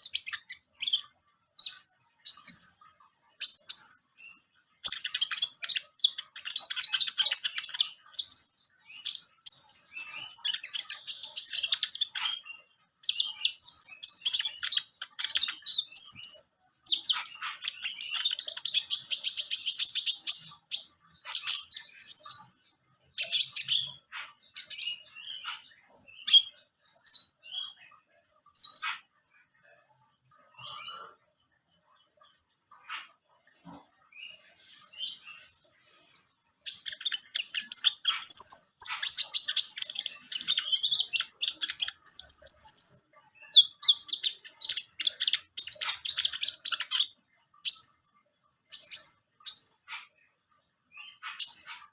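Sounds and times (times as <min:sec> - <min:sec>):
songbird chirping and twittering: 0:00.0 - 0:51.9.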